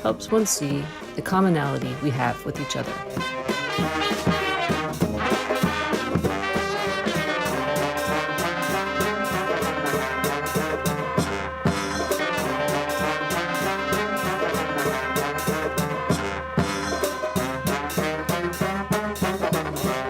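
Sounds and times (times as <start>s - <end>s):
horns playing together: 0.0s - 20.0s
steady drum beat: 0.0s - 20.0s.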